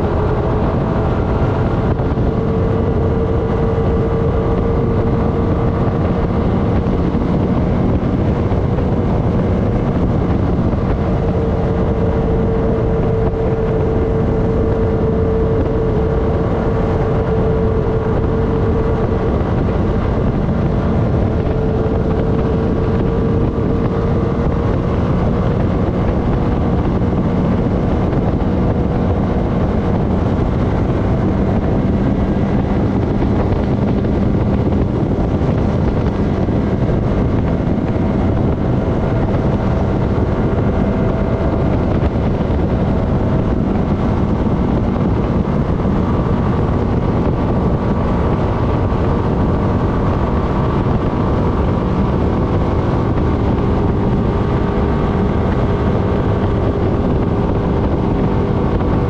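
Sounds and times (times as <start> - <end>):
atv engine running: 0.0 - 59.0
wind noise on microphone: 0.0 - 59.0.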